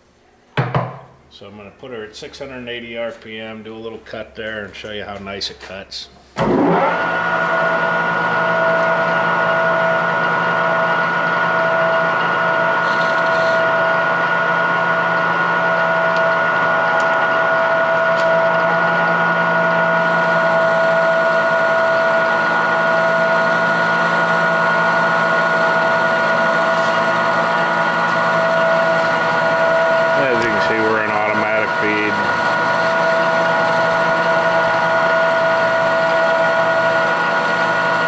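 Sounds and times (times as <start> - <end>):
metal lathe running: 6.4 - 38.0.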